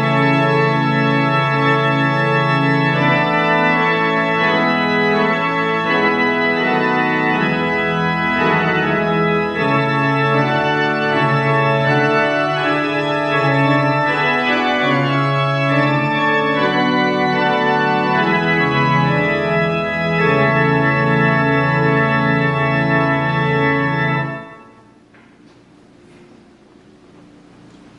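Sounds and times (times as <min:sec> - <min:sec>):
church organ playing: 0:00.0 - 0:25.1.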